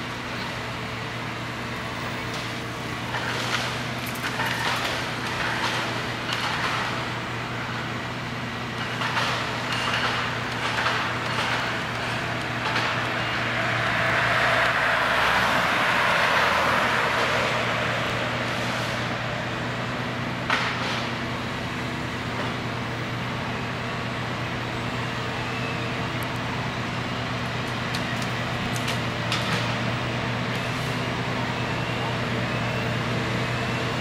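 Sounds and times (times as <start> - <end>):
diesel engine under load: 0.0 - 34.0.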